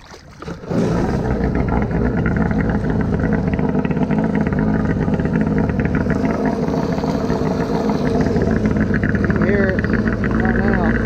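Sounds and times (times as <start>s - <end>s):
jet ski engine running: 0.0s - 11.0s.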